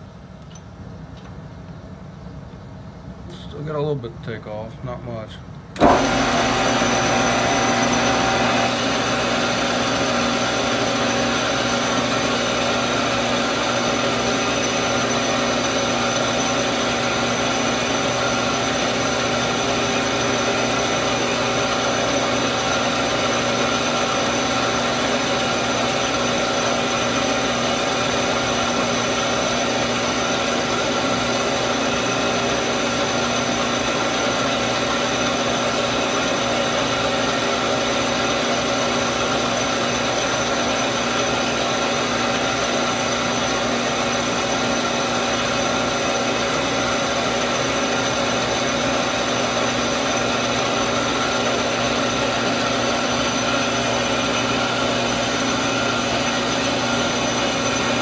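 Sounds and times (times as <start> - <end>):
metal lathe hum and whine: 5.8 - 58.0.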